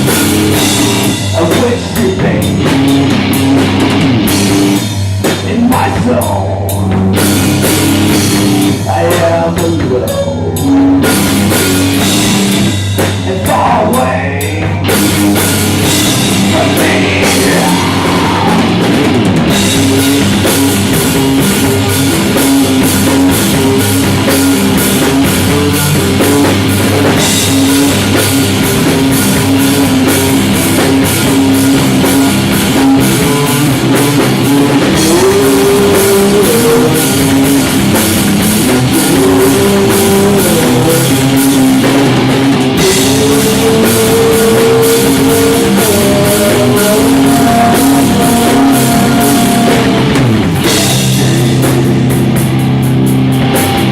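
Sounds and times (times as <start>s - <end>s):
drum kit: 0.0s - 53.9s
rock guitars: 0.0s - 53.9s.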